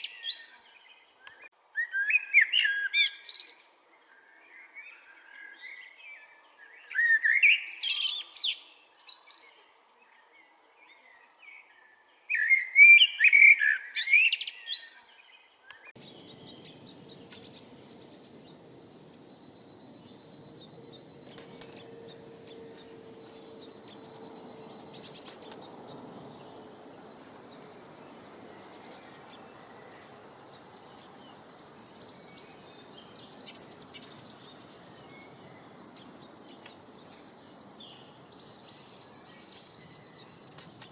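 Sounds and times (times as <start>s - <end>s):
faint high bird chirps: 0.0s - 40.9s
songbird high gliding chirps: 0.0s - 40.9s.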